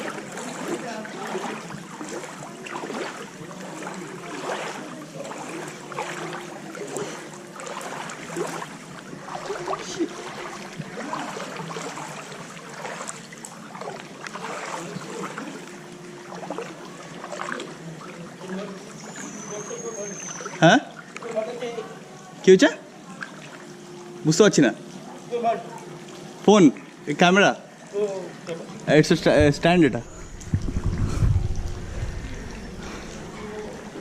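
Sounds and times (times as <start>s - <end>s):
floodwater sloshing and splashing: 0.0s - 34.0s.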